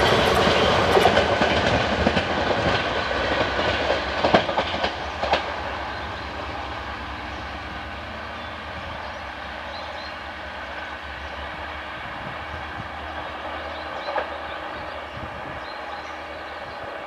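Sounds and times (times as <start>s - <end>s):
train rumble: 0.0s - 17.0s
train wheels clicking on rail joints: 0.0s - 17.0s.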